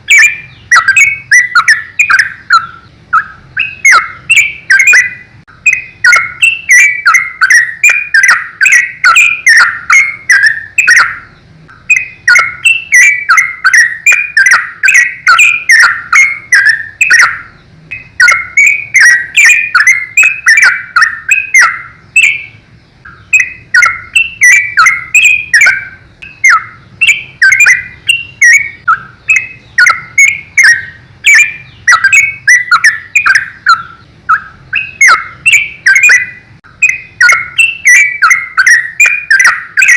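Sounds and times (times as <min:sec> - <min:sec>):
bird chirping runs: 0:00.0 - 0:39.9.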